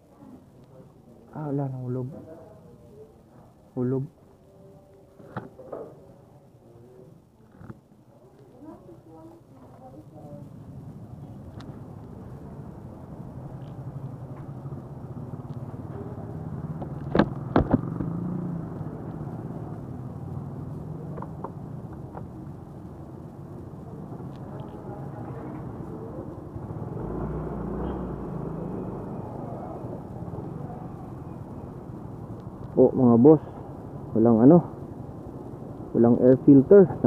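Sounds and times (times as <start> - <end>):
rumble of traffic: 0.0 - 37.0.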